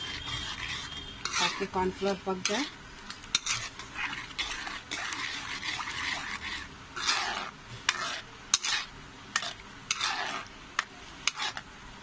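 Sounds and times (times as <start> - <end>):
spatula swishing thick soup: 0.0 - 11.7.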